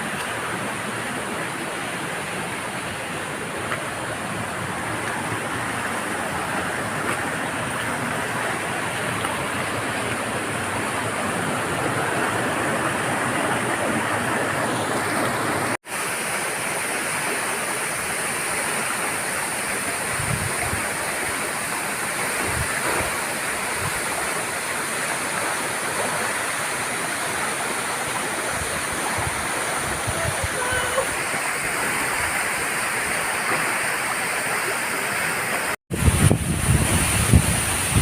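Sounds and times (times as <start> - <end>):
flowing water rushing: 0.0 - 38.0.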